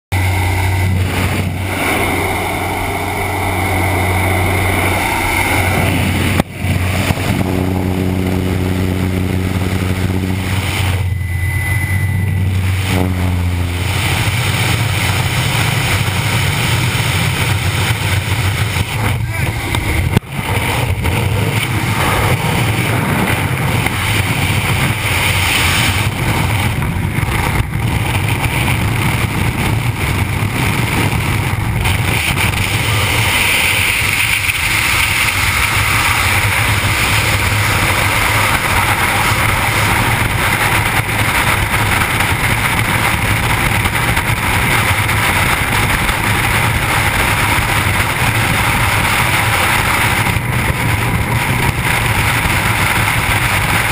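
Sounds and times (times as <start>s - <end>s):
wind rushing over microphone: 0.1s - 53.9s.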